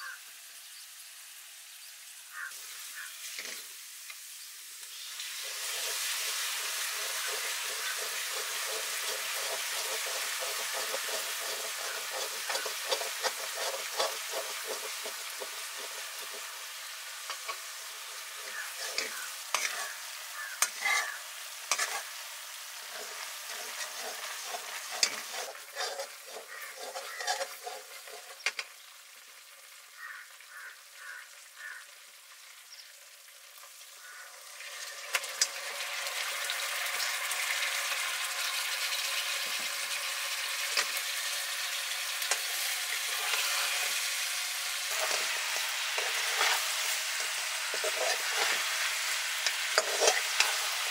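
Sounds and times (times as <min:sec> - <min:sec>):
food sizzling in hot oil: 0:00.0 - 0:50.9
utensil scraping a cooking pan: 0:02.6 - 0:03.7, 0:05.0 - 0:28.8, 0:34.1 - 0:50.9.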